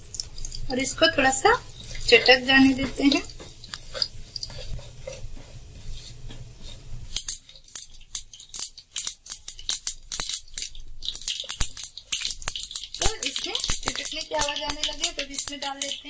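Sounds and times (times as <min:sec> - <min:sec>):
seeds sizzling and popping in oil: 0:00.0 - 0:05.3, 0:06.4 - 0:16.0.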